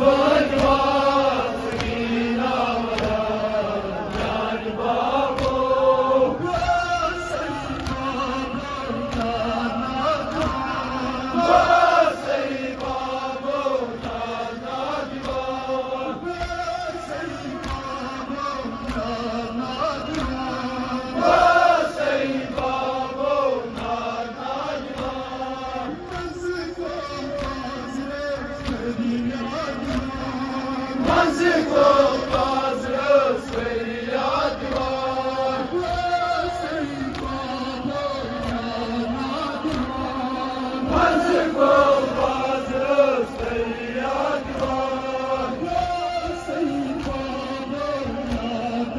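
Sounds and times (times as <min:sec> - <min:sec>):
crowd chanting: 0:00.0 - 0:48.9
hands slapping on chests: 0:00.0 - 0:48.9
men singing lament over loudspeaker: 0:00.0 - 0:48.9.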